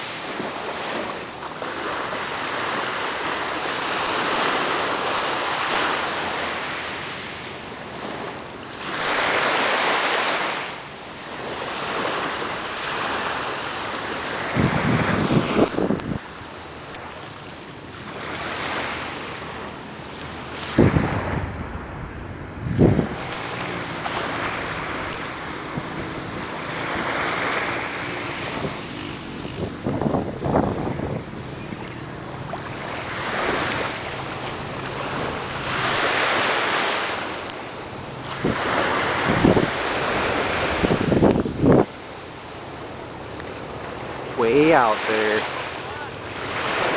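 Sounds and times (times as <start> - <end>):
sea surf washing in: 0.0 - 46.9
wind gusts on microphone: 0.0 - 46.9.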